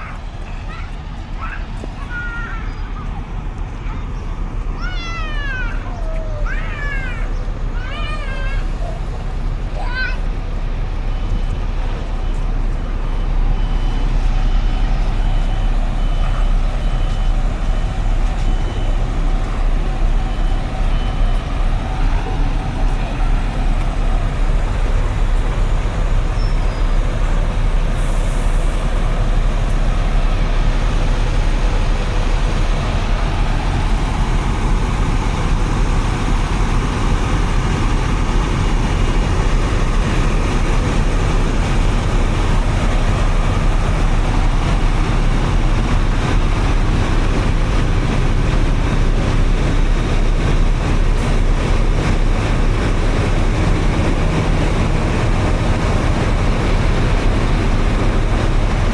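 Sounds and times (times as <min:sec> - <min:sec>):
traffic on wet street: 0:00.0 - 0:58.9.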